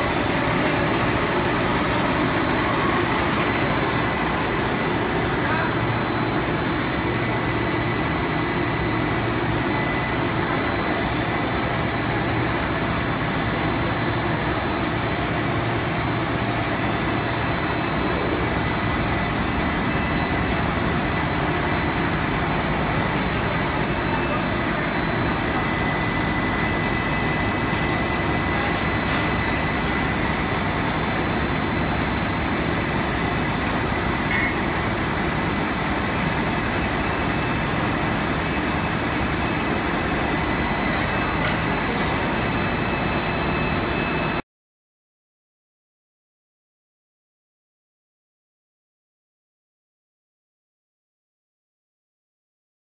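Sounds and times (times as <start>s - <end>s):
extrusion machine running: 0.0s - 44.4s
faint high machine whine: 0.0s - 44.4s.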